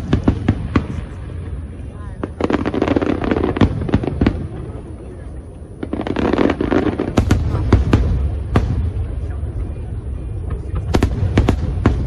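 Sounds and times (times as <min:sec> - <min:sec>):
fireworks bursts rumbling: 0:00.0 - 0:12.0
fireworks sharp cracks: 0:00.0 - 0:12.0.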